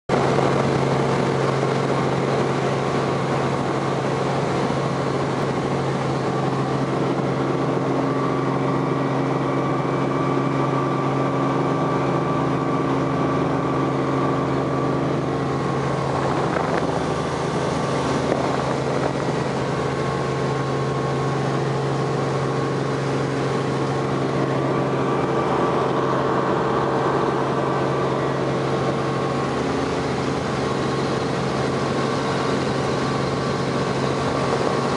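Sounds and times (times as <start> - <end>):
helicopter engine and rotors drone: 0.1 - 34.9.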